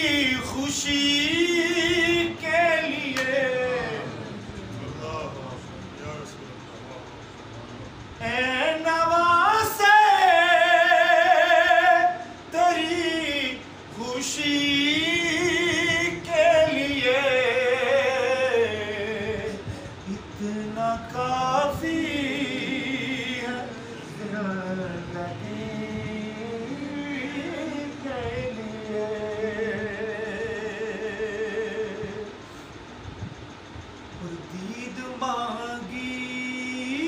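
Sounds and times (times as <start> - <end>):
man singing unaccompanied: 0.0 - 4.4, 8.2 - 32.4, 34.2 - 37.0.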